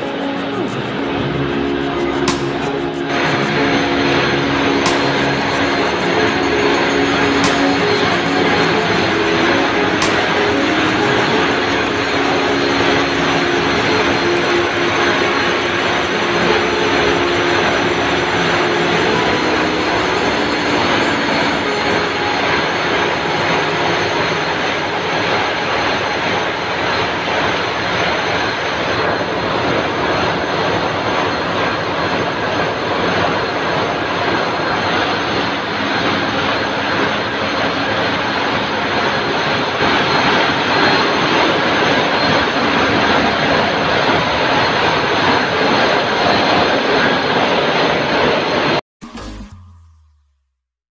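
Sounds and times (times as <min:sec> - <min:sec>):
diesel generator engines running: 0:00.0 - 0:47.4.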